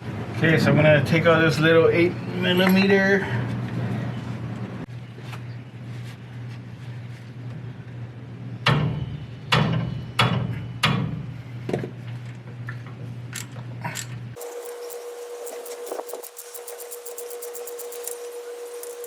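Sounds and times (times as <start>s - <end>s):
steady low hum: 3.5s - 19.0s.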